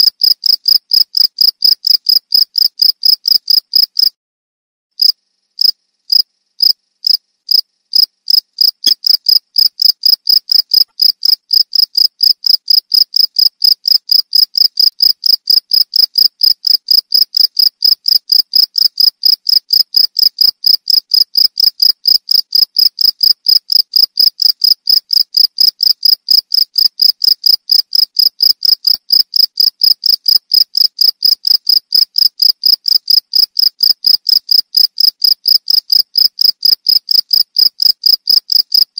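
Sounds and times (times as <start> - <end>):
cricket chirping: 0.1 - 4.1, 5.0 - 38.9.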